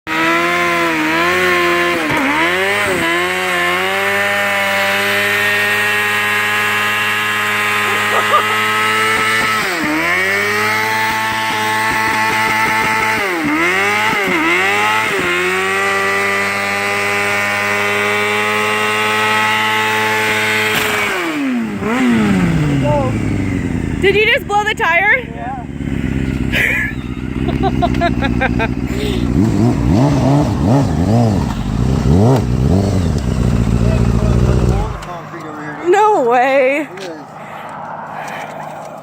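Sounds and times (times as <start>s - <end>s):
motorcycle engine revving high: 0.1s - 39.0s
tire spinning on pavement: 0.1s - 39.0s.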